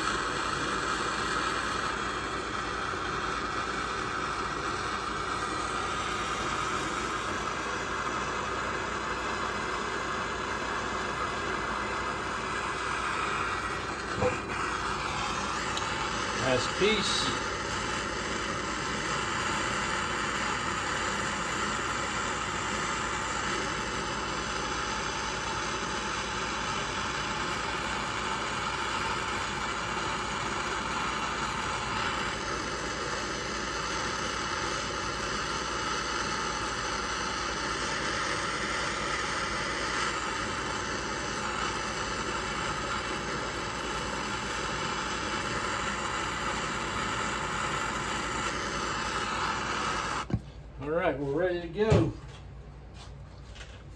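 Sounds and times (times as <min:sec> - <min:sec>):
gas torch flame hissing: 0:00.0 - 0:52.1.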